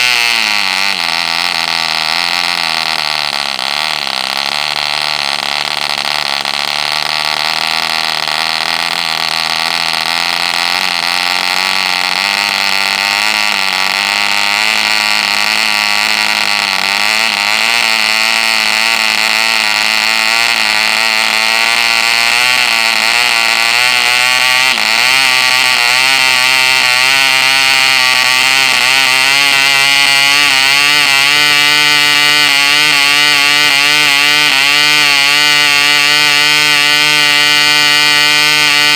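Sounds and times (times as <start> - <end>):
model engine buzzing: 0.0 - 38.9.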